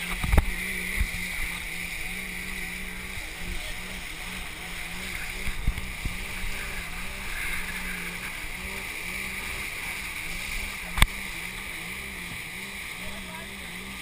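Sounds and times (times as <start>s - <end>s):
boat engine hum: 0.0s - 14.0s
rushing water and spray: 0.0s - 14.0s.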